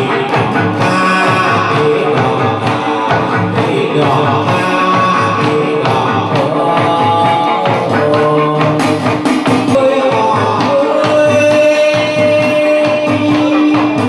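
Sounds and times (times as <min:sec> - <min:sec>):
person singing: 0:00.0 - 0:14.0
rhythmic percussion: 0:00.0 - 0:14.0.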